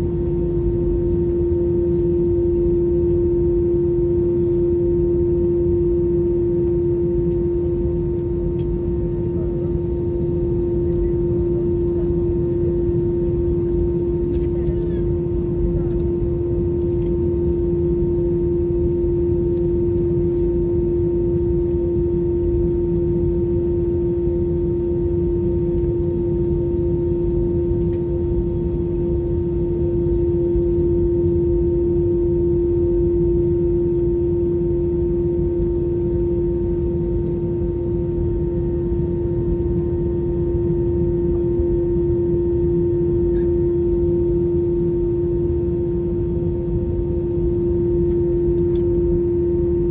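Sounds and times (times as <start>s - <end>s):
low rumble in aircraft cabin: 0.0s - 49.9s.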